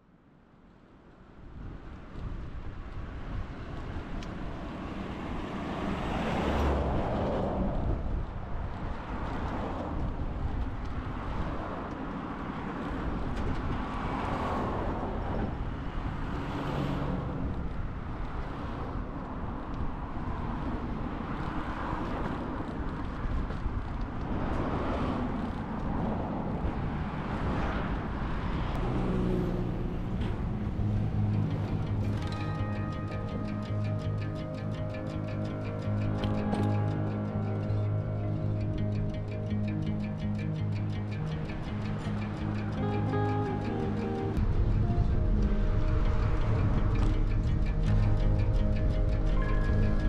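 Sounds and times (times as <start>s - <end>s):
wind rumble on microphone: 1.1s - 50.0s
cars passing: 1.6s - 50.0s.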